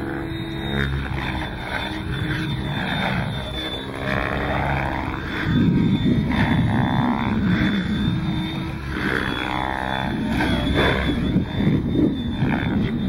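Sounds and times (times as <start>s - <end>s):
model helicopter rotor whirring: 0.0s - 13.0s.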